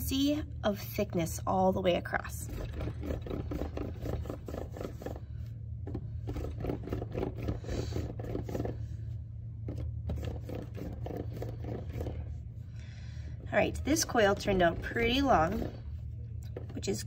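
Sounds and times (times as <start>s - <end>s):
steady low hum: 0.0s - 17.0s
hands rolling clay on wood: 2.1s - 12.7s, 13.4s - 17.0s.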